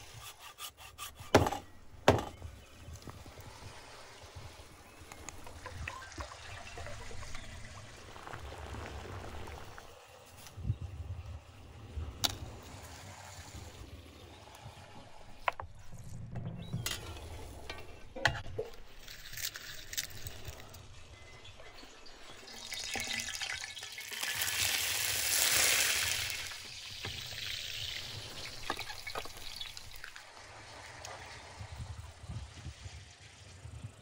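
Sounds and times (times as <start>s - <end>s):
chillies and garlic sizzling: 2.6s - 16.0s, 16.7s - 32.0s.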